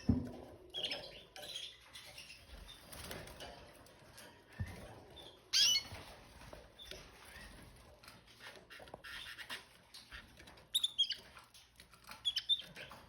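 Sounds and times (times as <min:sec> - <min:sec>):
canary chirping: 0:00.0 - 0:03.8, 0:04.4 - 0:13.0.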